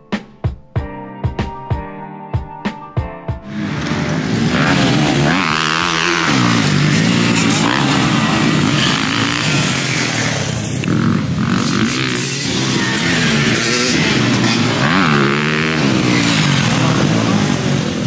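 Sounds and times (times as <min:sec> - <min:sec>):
dirt bike engine revving: 0:03.5 - 0:18.0.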